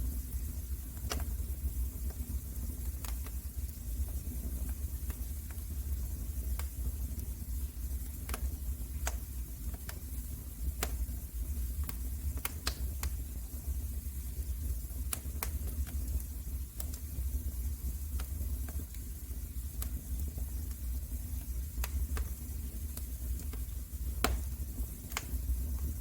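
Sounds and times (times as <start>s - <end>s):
wood fire crackling: 0.0s - 26.0s
sharp pops of fire: 0.2s - 3.8s, 4.6s - 13.6s, 14.8s - 26.0s.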